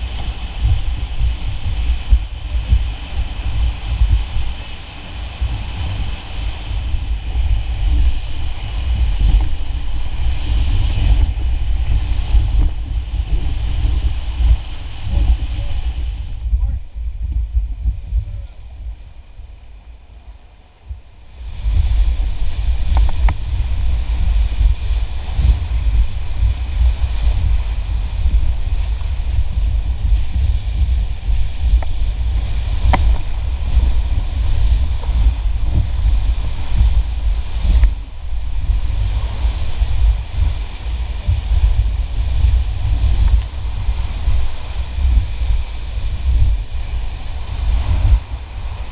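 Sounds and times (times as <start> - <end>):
river rapids rushing and splashing: 0.0 - 48.9
wind buffeting microphone: 0.0 - 48.9.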